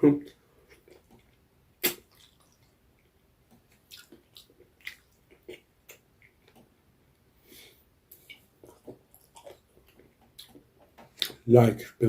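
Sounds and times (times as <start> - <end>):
chewing food with mouth clicks: 0.2 - 6.7, 8.1 - 11.5.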